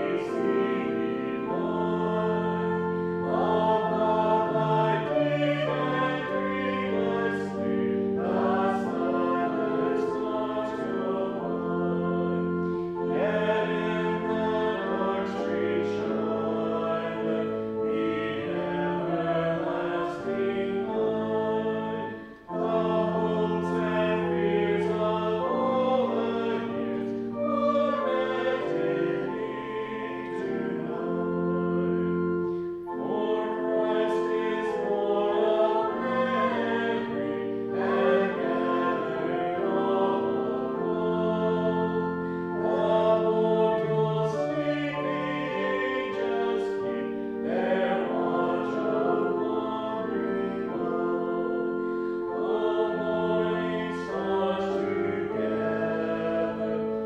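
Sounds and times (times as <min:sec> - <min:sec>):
choir singing a carol: 0:00.0 - 0:57.0.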